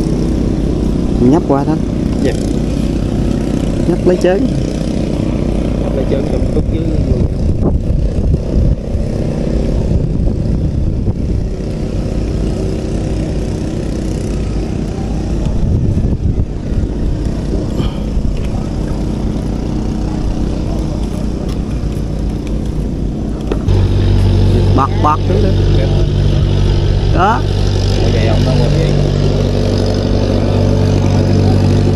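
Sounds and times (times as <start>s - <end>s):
engine droning steadily: 0.0s - 31.9s.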